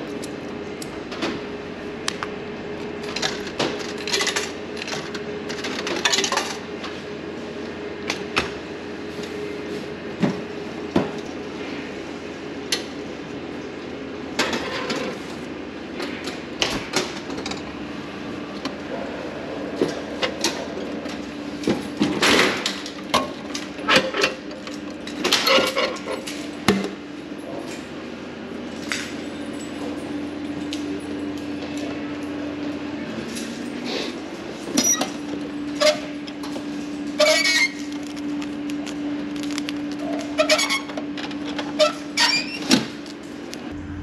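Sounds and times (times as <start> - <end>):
vending machine hum: 0.0 - 44.0.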